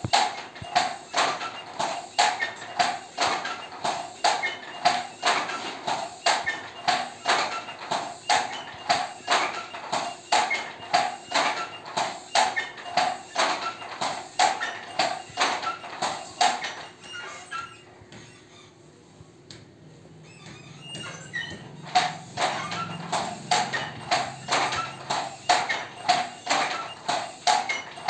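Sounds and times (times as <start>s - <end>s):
loom clacking: 0.0s - 17.8s, 20.3s - 28.0s.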